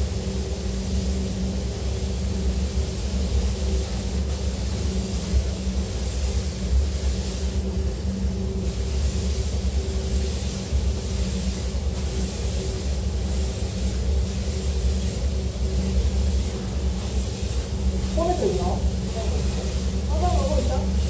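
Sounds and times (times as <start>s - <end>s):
spray gun hissing: 0.0s - 21.0s
ventilation low hum: 0.0s - 21.0s.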